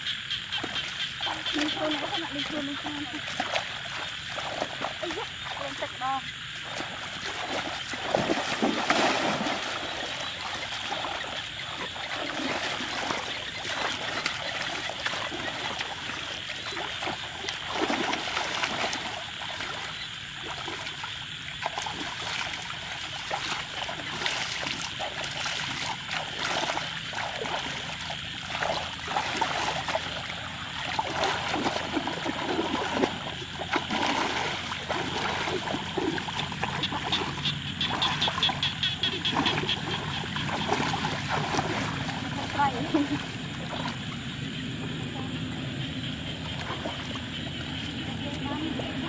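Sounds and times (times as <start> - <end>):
muddy water splashing and sloshing: 0.0 - 49.0
wading through water: 0.0 - 49.0.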